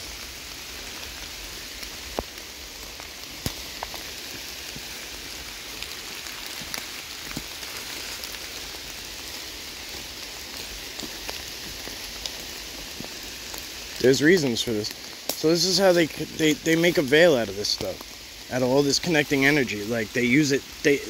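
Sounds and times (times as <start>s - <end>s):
heavy rain falling: 0.0s - 21.0s
raindrops ticking close by: 0.0s - 21.0s.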